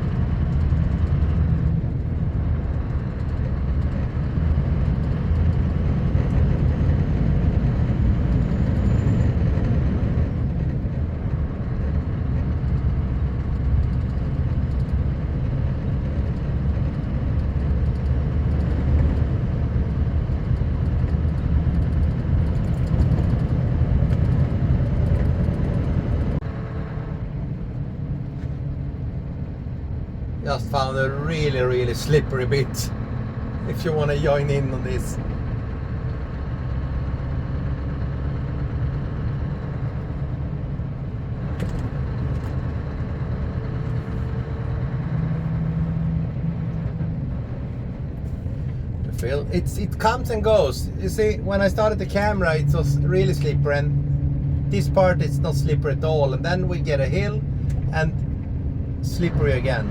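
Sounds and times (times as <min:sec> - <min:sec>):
studded tyres road noise: 0:00.0 - 0:59.9
truck engine drone: 0:00.0 - 0:59.9.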